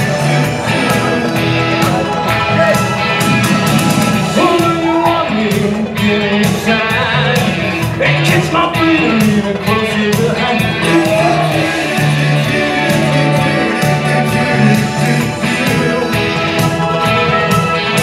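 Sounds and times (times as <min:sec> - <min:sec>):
person singing: 0:00.0 - 0:03.3, 0:04.1 - 0:18.0
loud music with steady beat: 0:00.0 - 0:18.0.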